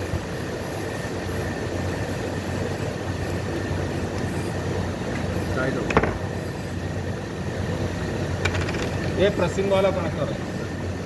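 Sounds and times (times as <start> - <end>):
motor humming and rumbling: 0.0 - 11.0.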